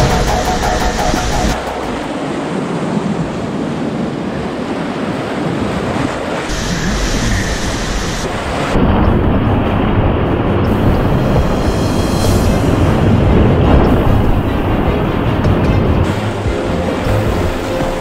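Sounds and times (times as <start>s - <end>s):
whitewater rapids rushing: 0.0s - 18.0s
wind buffeting microphone: 0.0s - 18.0s.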